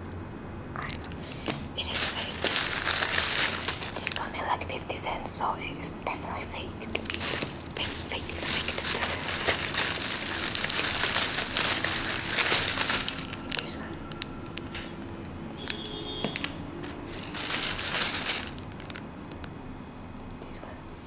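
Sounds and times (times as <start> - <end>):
plastic bag crinkling: 0.8 - 4.7, 6.1 - 19.5.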